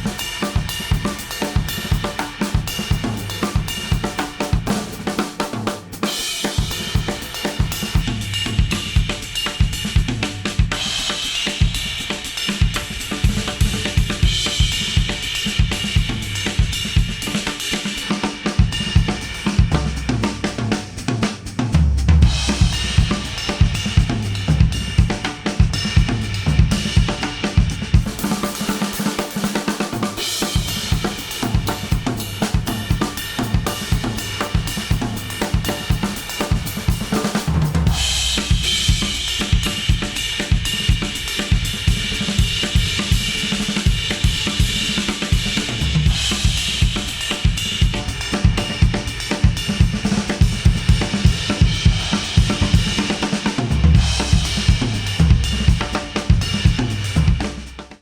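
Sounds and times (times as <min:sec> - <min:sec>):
instrumental pop music with drums: 0:00.0 - 0:58.0.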